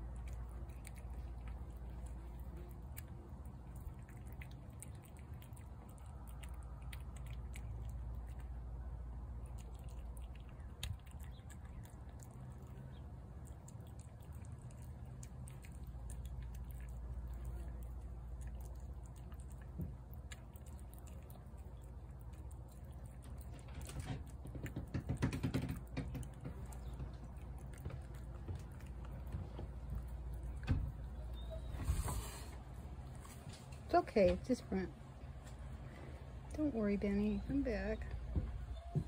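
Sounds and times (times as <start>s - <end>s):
cat chewing wet food: 0.0s - 33.9s
low background rumble: 0.0s - 39.0s.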